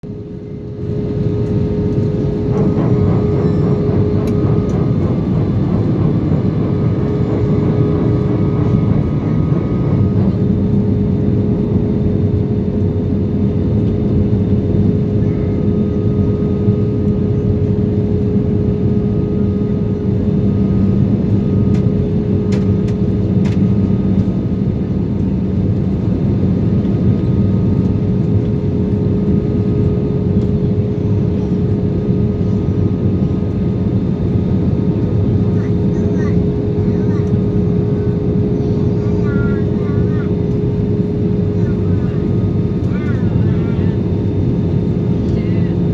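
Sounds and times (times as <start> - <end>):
constant cabin hum: 0.0 - 45.9
jet engine and airflow rush: 0.0 - 45.9.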